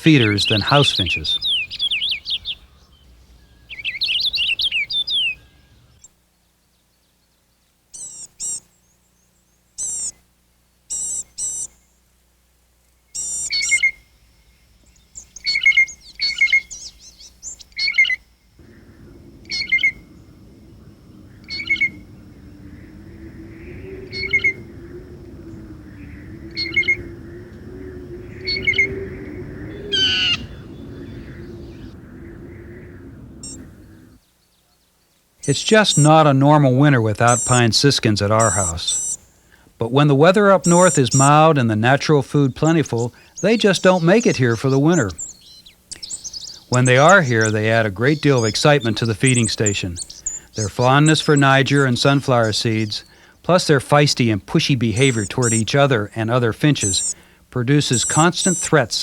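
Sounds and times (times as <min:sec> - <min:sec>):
low steady hum: 0:00.0 - 0:59.0
songbirds singing: 0:00.0 - 0:59.0.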